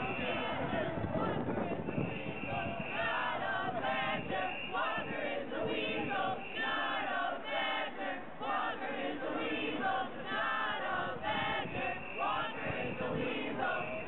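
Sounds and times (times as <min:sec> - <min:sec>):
group singing in unison: 0:00.0 - 0:14.0.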